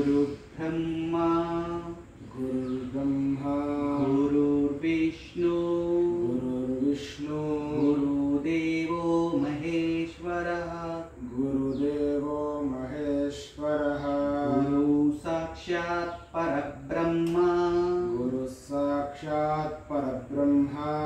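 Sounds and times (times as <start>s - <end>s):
low voice chanting: 0.0s - 21.0s.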